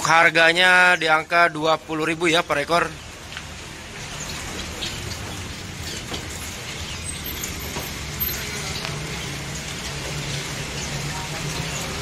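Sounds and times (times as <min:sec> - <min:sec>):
small birds chirping: 0:02.1 - 0:12.0.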